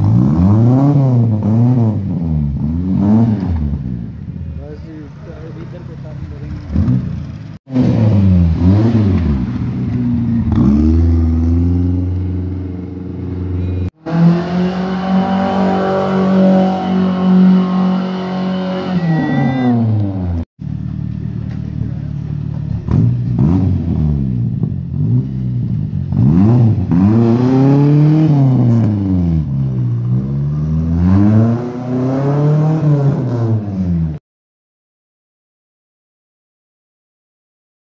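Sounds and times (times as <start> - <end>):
car engine revving: 0.0 - 34.2.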